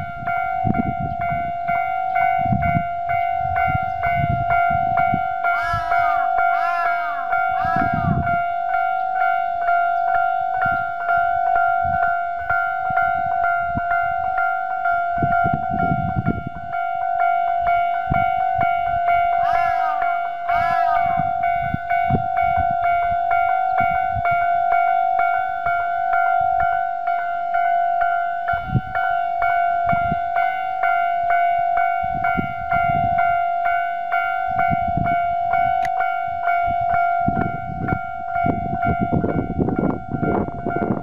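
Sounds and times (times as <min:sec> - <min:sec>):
wind gusts on microphone: 0:00.0 - 0:26.9, 0:28.2 - 0:41.0
electronic level crossing bell dinging: 0:00.0 - 0:41.0.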